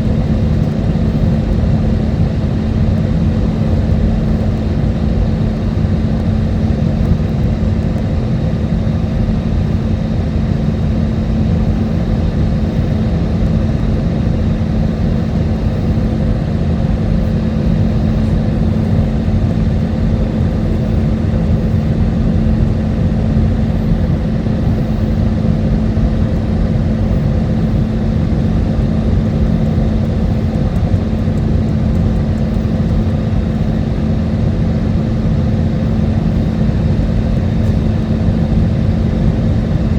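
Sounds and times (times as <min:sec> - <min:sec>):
airliner cabin roar: 0:00.0 - 0:39.9
steady low hum: 0:00.0 - 0:39.9.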